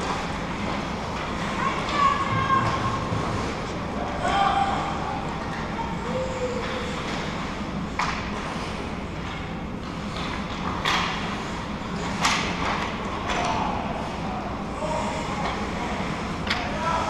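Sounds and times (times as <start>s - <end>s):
skating hall noise: 0.0s - 17.0s.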